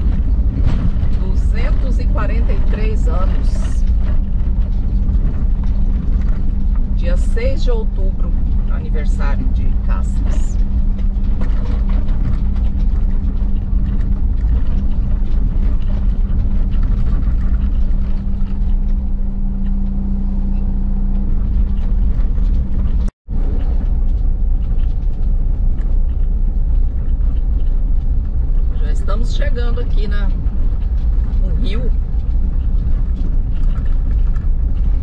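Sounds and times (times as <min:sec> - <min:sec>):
low engine hum: 0:00.0 - 0:35.0
vehicle rumbling over paving stones: 0:00.0 - 0:35.0.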